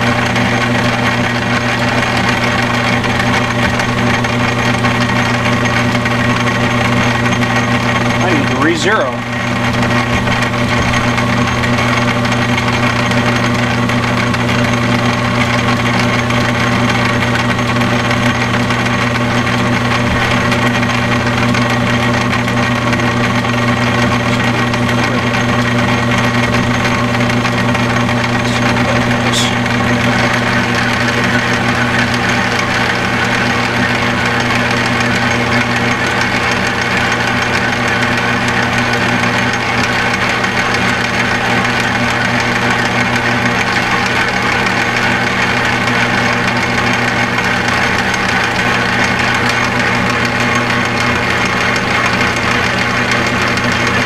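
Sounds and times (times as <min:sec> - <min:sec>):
metal lathe motor hum: 0:00.0 - 0:54.0.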